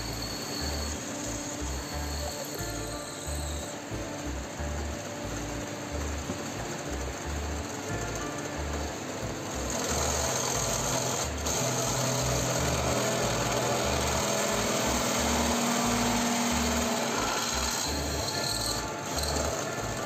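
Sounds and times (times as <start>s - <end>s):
drill press cutting steel: 0.0s - 20.0s.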